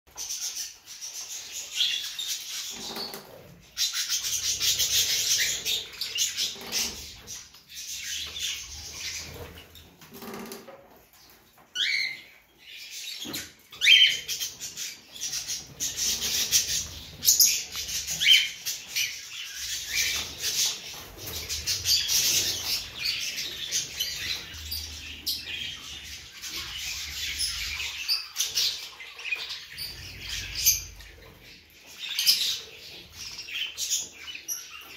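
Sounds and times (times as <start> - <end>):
small birds chattering and chirping: 0.1 - 34.9.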